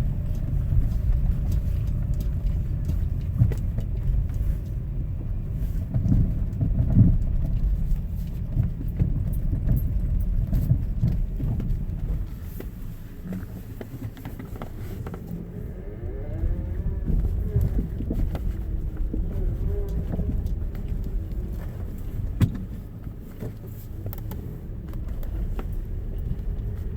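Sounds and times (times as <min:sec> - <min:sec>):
car engine rumbling: 0:00.0 - 0:26.9.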